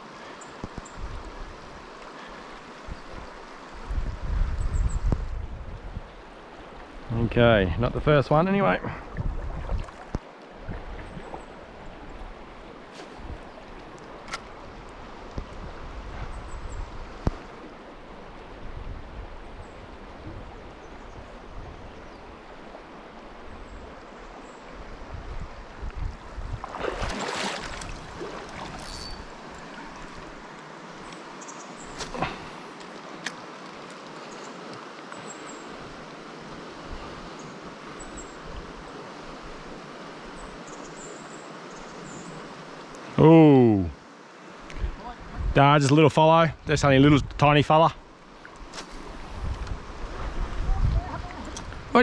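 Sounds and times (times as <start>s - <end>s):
stream running: 0.0s - 52.0s.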